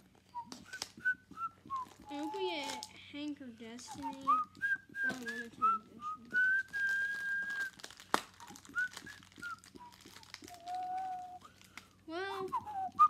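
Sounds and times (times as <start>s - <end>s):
person whistling gliding notes: 0.3s - 2.9s, 3.9s - 7.8s, 8.4s - 11.6s, 12.2s - 13.0s.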